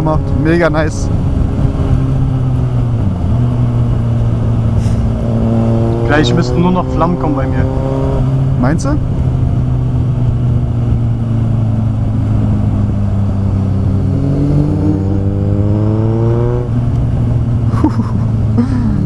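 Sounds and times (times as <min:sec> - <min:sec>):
loud motorcycle engine revving: 0:00.0 - 0:17.0
wind rumble on microphone: 0:00.0 - 0:18.4.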